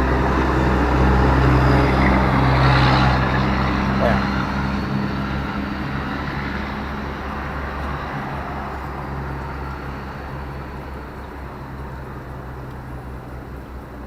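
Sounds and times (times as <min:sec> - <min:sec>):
engine hum: 0:00.0 - 0:14.0
traffic noise: 0:00.0 - 0:14.0.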